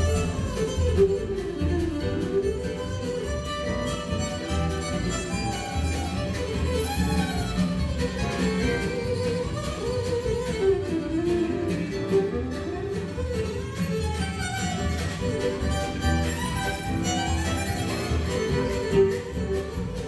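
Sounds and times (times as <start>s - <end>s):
upright bass: 0.0s - 13.8s, 14.7s - 20.0s
acoustic guitar: 0.0s - 20.0s
drums: 0.0s - 20.0s
fiddle melody: 0.0s - 20.0s.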